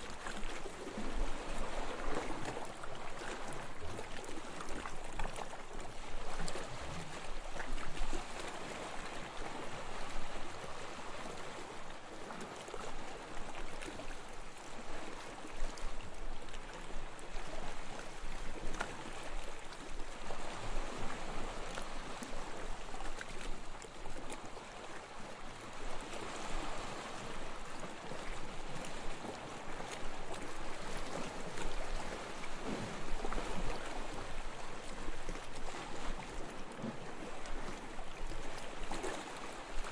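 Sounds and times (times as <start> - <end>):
ocean waves washing onto beach: 0.0 - 39.9.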